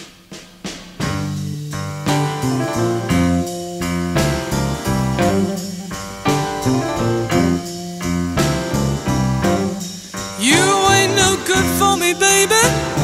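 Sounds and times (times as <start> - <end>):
blues band playing: 1.0 - 13.0.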